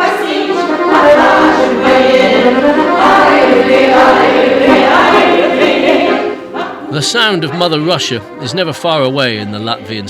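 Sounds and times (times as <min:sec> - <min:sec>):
choir singing: 0:00.0 - 0:08.5.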